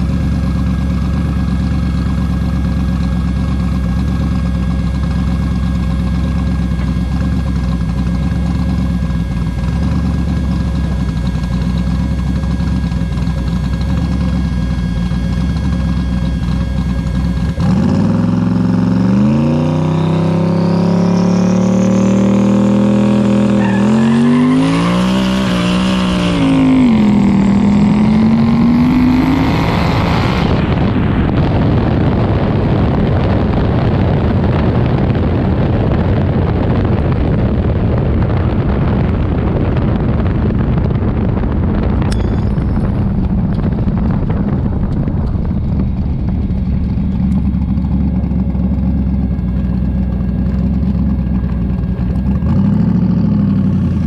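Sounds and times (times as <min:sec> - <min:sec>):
car engine accelerating hard: 0:00.0 - 0:54.0
wind and road noise: 0:00.0 - 0:54.0.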